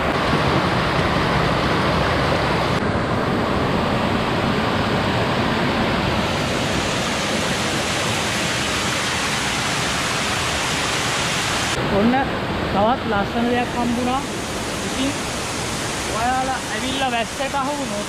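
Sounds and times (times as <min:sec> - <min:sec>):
waterfall rushing and splashing: 0:00.0 - 0:18.0.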